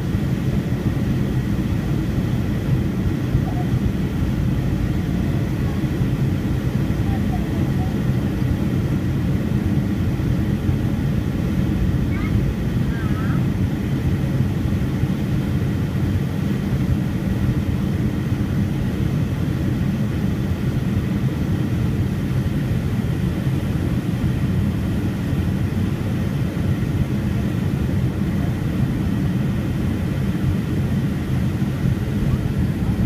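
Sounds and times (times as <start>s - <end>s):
jet engines low rumble: 0.0s - 33.0s.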